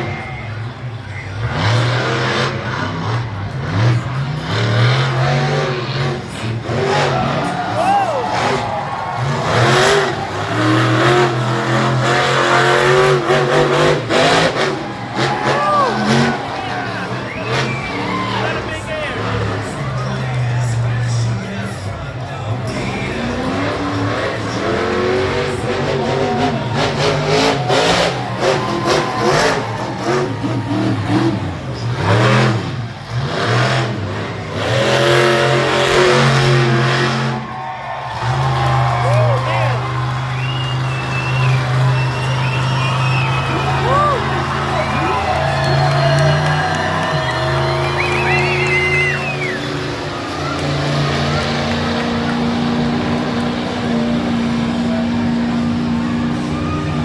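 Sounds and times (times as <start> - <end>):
monster truck engine revving: 0.0 - 57.0.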